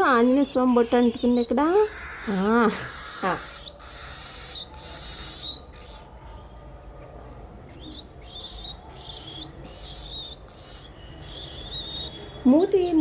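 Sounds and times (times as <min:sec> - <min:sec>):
baby cockatiel chirping: 0:01.0 - 0:06.1, 0:07.7 - 0:13.0.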